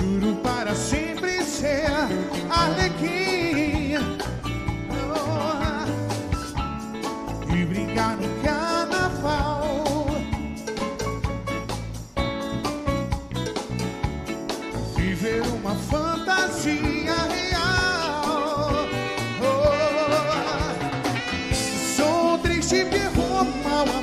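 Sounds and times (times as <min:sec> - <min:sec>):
big band with latin percussion: 0:00.0 - 0:24.0
wavering lead melody with vibrato: 0:00.1 - 0:24.0.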